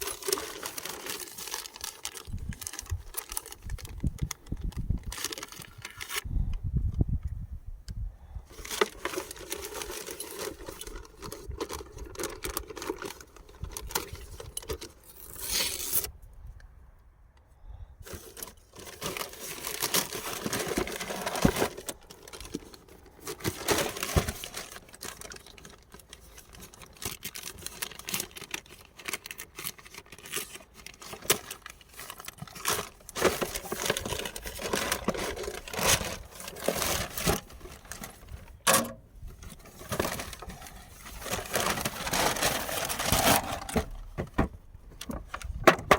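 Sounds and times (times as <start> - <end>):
plastic and cardboard crinkling: 0.0 - 6.3, 8.5 - 16.1, 18.0 - 45.9.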